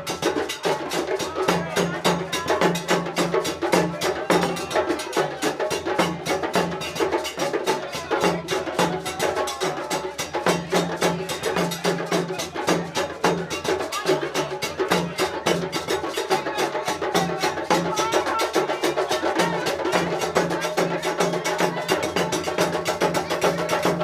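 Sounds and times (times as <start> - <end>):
fast percussion beat: 0.0 - 24.0.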